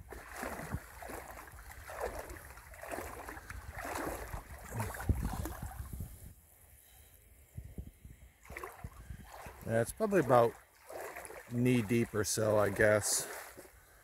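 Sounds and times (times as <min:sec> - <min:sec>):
wading through floodwater: 0:00.0 - 0:06.1, 0:08.4 - 0:14.0.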